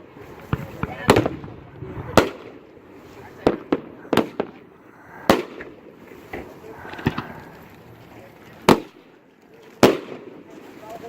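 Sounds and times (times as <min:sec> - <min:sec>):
firework pops and crackling: 0:00.0 - 0:11.0
firework reports: 0:00.0 - 0:11.0.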